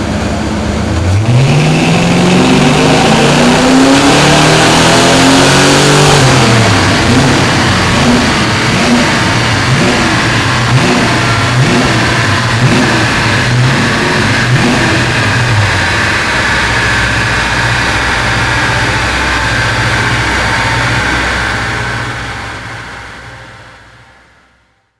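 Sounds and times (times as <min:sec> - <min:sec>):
engine revving and idling: 0:00.0 - 0:24.5.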